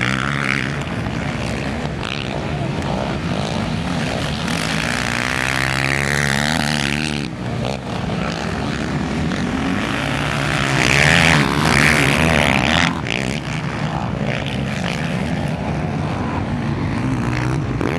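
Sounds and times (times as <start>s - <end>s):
quad engines revving: 0.0s - 17.9s.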